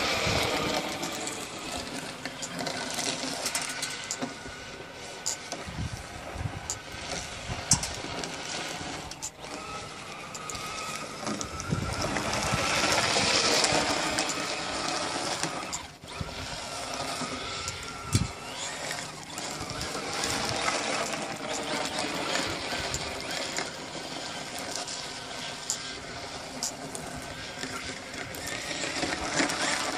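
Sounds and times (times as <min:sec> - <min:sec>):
electric motor whining: 0:00.0 - 0:29.9.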